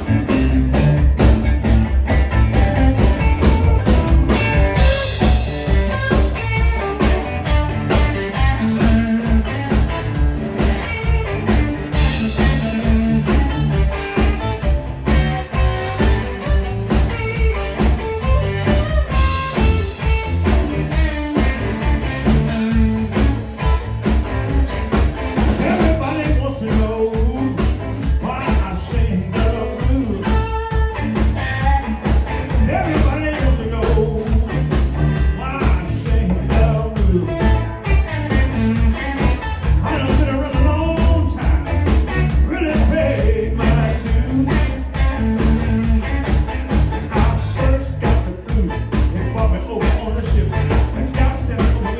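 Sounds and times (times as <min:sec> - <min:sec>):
live blues band playing: 0:00.0 - 0:51.9.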